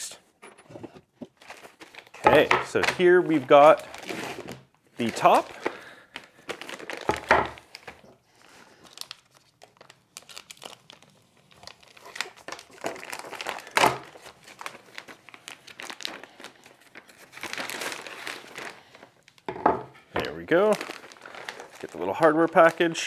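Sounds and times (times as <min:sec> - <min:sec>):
plastic bag crinkling and tearing: 0:01.3 - 0:19.5, 0:20.2 - 0:23.0.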